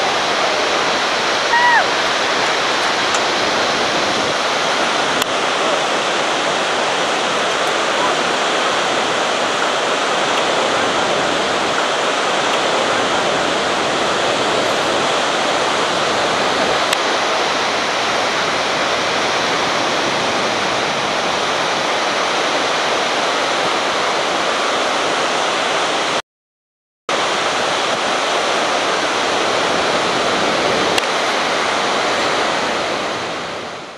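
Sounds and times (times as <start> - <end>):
river rapids rushing: 0.0 - 26.2, 27.1 - 33.9.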